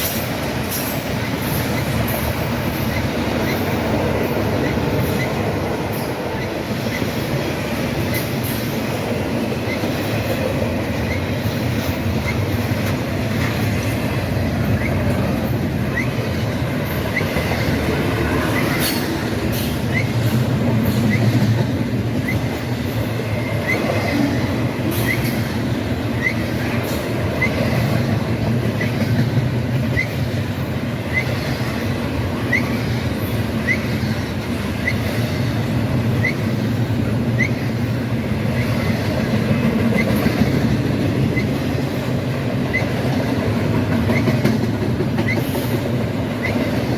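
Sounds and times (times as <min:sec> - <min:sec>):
freight train wheels rumbling on rail: 0:00.0 - 0:46.9.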